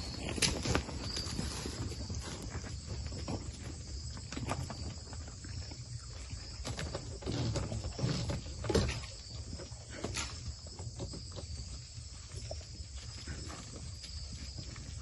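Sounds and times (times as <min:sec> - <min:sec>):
goat hooves knocking and shuffling: 0:00.0 - 0:15.0.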